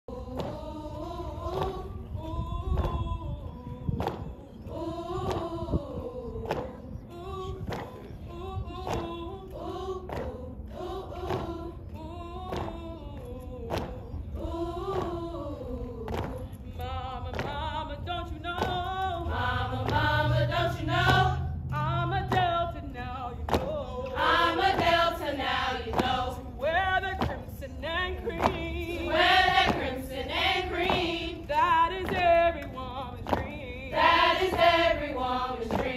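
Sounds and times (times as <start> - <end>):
women singing in unison: 0.1 - 35.9.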